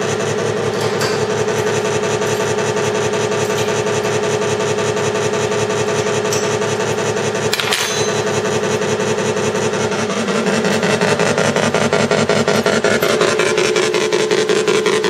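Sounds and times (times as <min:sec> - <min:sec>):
simulated tank engine from small speaker: 0:00.0 - 0:06.1, 0:08.4 - 0:15.0.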